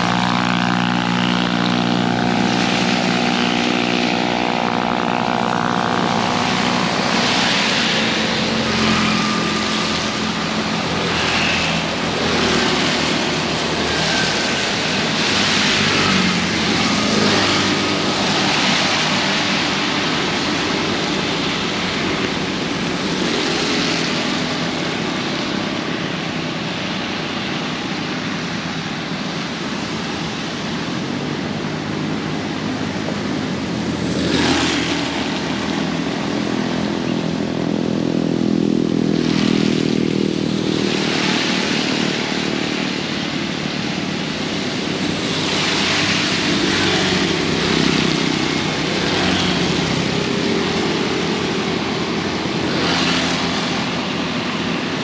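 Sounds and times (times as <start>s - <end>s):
engine hum: 0.0s - 55.0s
heavy rain pouring: 0.0s - 55.0s
vehicles passing: 0.0s - 55.0s.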